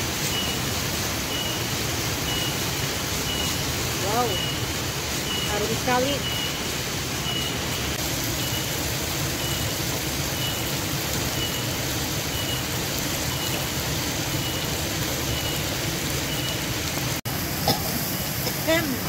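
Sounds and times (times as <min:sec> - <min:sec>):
paste frying in hot oil: 0:00.0 - 0:19.0.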